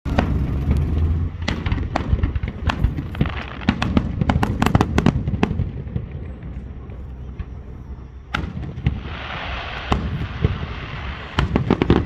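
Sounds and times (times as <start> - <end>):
fireworks bangs and crackles: 0.1 - 12.0
low rumbling boom: 0.1 - 12.0.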